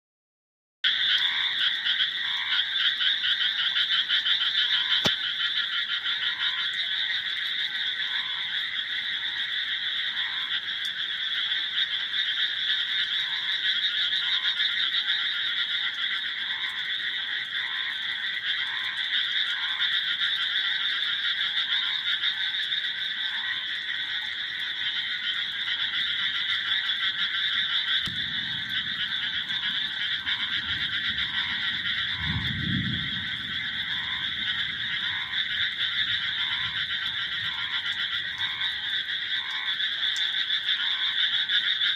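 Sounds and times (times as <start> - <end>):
low frog croak: 0.8 - 41.9
chorus of frogs calling: 0.9 - 41.9.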